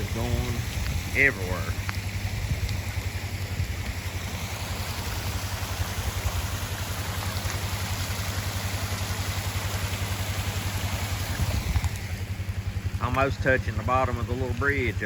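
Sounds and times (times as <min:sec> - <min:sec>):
rushing floodwater: 0:00.0 - 0:15.0
vehicle engine idling: 0:00.0 - 0:15.0.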